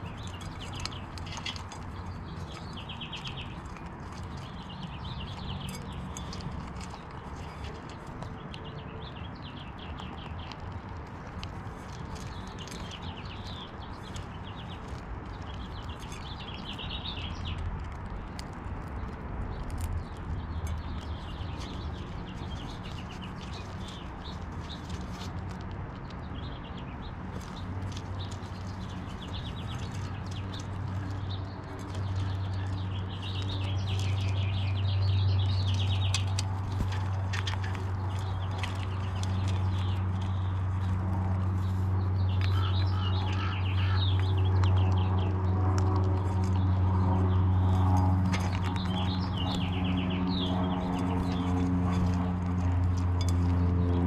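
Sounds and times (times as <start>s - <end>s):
birds chirping: 0.0s - 54.0s
squirrel eating seeds clicks: 0.0s - 54.0s.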